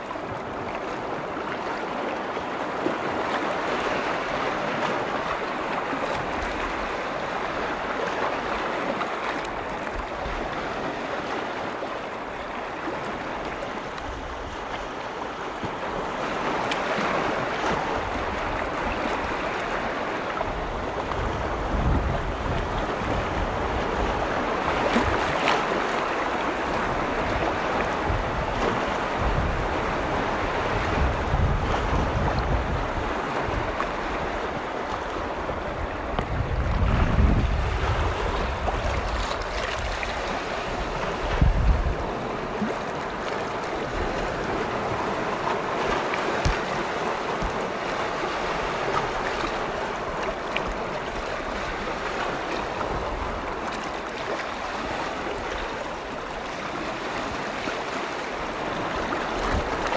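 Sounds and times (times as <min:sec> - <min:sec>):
lake waves washing in: 0:00.0 - 0:59.9
wind buffeting microphone: 0:03.1 - 0:59.9.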